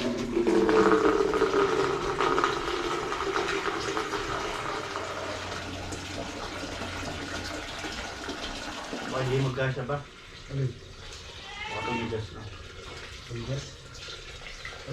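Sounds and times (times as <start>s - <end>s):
water pouring: 0.0s - 14.9s.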